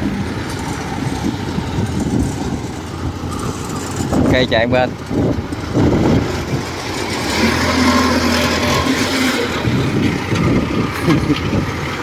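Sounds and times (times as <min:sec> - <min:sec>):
tracked crawler engine running: 0:00.0 - 0:12.0.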